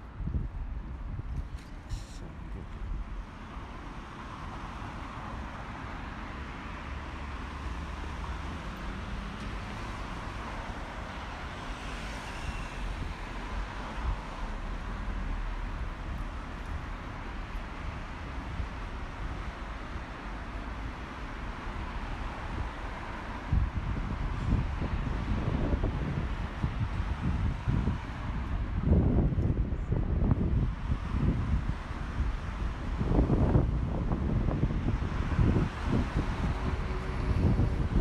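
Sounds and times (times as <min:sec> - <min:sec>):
cars driving past: 0:03.2 - 0:29.6, 0:30.2 - 0:38.0.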